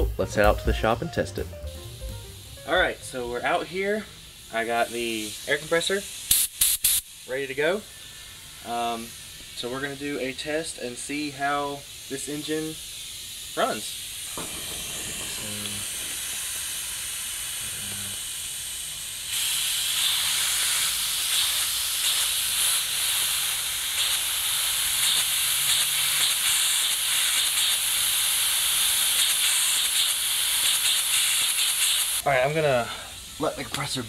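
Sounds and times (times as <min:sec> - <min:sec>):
compressed air hissing: 0:01.6 - 0:34.0.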